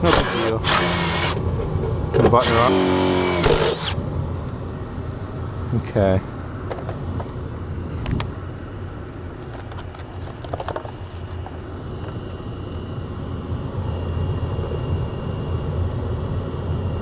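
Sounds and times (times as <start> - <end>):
faint high whine: 0.0 - 17.0
low mechanical hum: 0.0 - 17.0.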